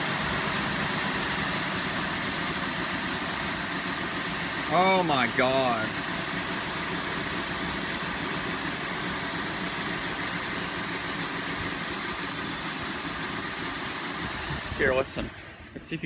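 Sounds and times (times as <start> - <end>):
car engine idling and misfiring: 0.0 - 16.0.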